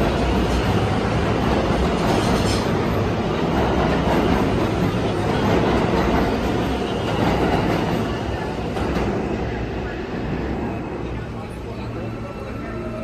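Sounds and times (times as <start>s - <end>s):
subway train passing: 0.0s - 13.0s.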